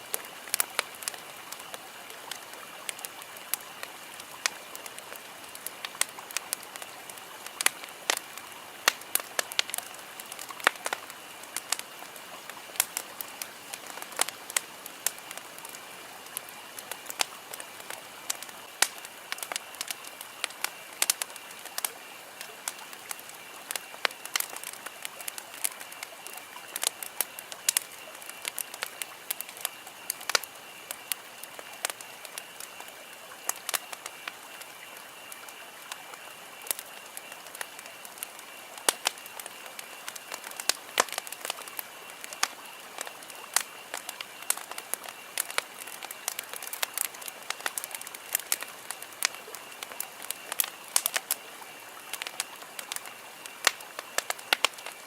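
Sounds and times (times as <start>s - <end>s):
campfire crackling: 0.0s - 55.0s.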